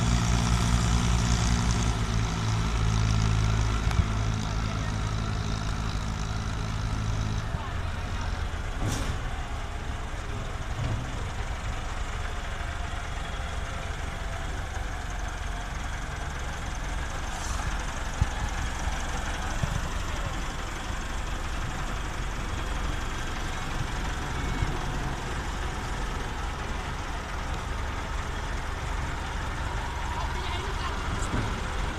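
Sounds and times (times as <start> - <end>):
tractor diesel engines droning: 0.0 - 31.9.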